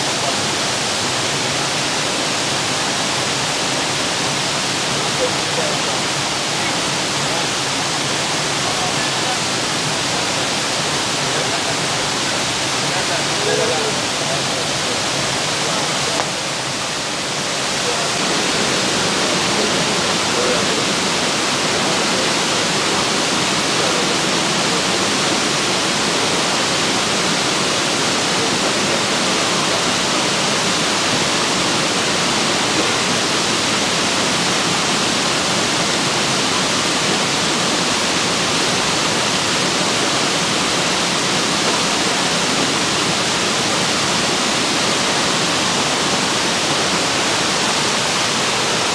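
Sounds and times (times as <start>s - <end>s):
rushing flowing water: 0.0s - 48.9s.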